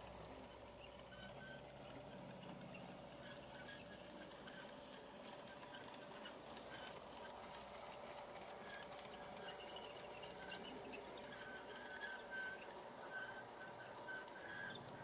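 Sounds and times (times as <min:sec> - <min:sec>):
model locomotive motor hum: 0:00.0 - 0:15.0
wheels clicking on track: 0:00.0 - 0:15.0.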